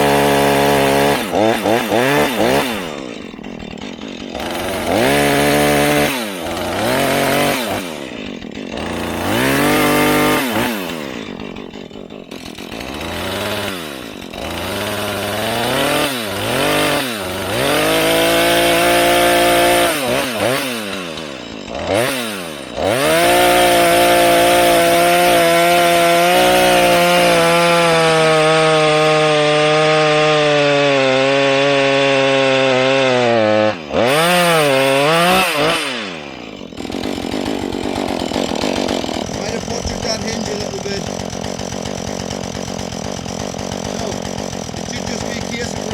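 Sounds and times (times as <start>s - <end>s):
chainsaw revving and cutting: 0.0s - 45.9s.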